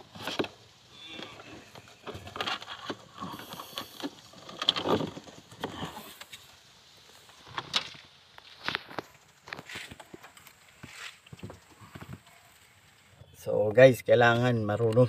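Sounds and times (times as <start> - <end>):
rustling and scraping on plastic: 0.0 - 13.0.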